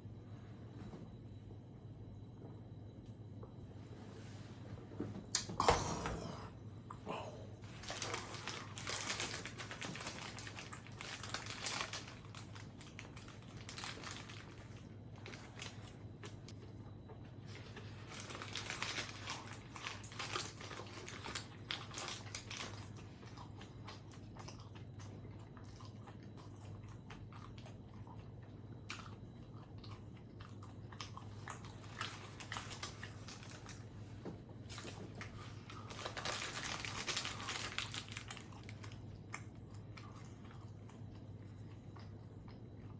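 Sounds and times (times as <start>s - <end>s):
faint low hum: 0.0s - 42.9s
person chewing crunchy food: 7.7s - 42.9s.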